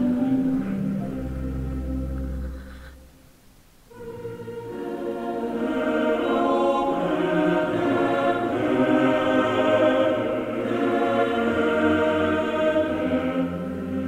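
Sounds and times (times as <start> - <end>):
slow choral chords: 0.0 - 14.0.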